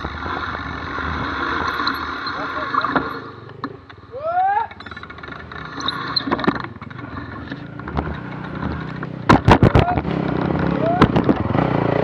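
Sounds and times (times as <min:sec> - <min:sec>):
dirt bike engine running: 0:00.0 - 0:04.1, 0:04.7 - 0:12.0.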